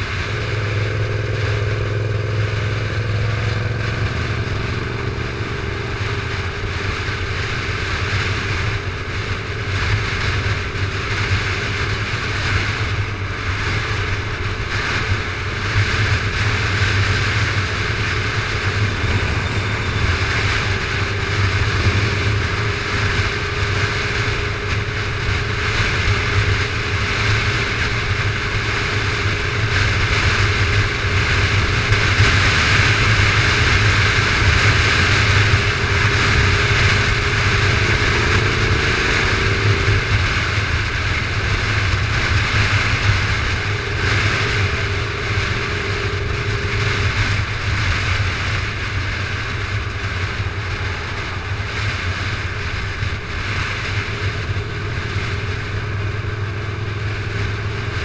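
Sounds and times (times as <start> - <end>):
motorcycle engine and road drone: 0.0 - 58.0
wind rushing over microphone: 0.0 - 58.0.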